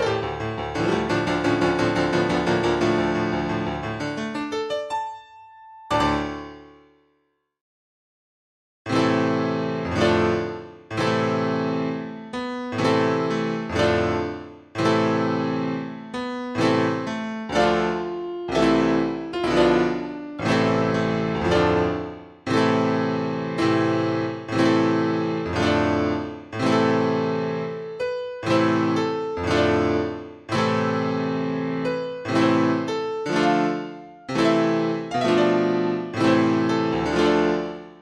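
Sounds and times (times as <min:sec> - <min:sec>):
slow piano chords: 0:00.0 - 0:06.7, 0:08.9 - 0:38.0.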